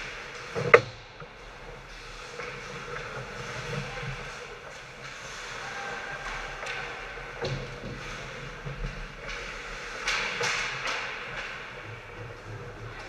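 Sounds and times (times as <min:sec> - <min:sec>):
skate blades scraping ice: 0:01.8 - 0:12.8.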